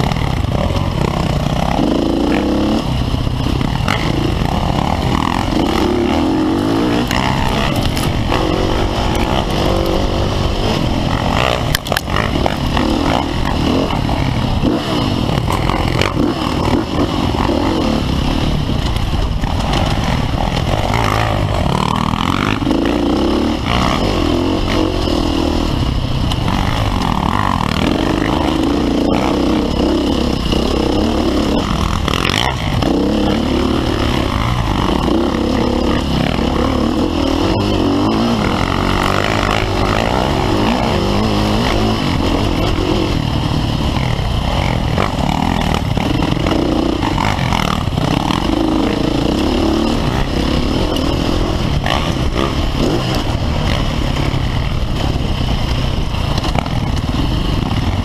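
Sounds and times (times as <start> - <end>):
dirt bike engine revving: 0.0 - 58.0
wind noise: 0.0 - 58.0.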